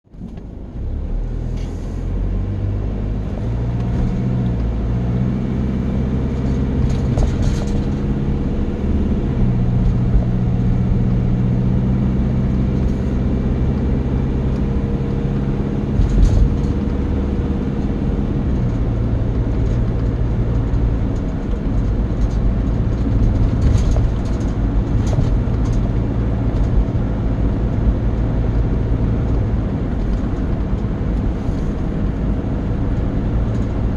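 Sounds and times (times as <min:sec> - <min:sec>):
vehicle engine running: 0:00.1 - 0:33.9.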